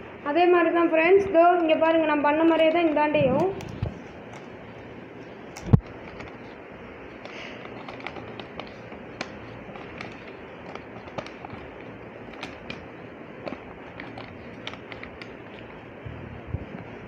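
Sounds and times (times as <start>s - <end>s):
steady background hiss: 0.0s - 17.0s
paper crackling and rustling: 2.3s - 16.0s.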